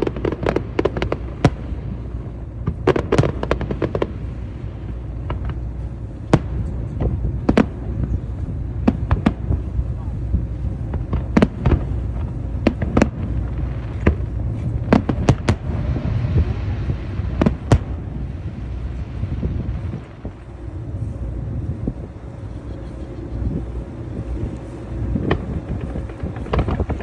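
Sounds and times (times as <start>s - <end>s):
fireworks bangs: 0.0s - 27.0s
low rumble of shells: 0.0s - 27.0s.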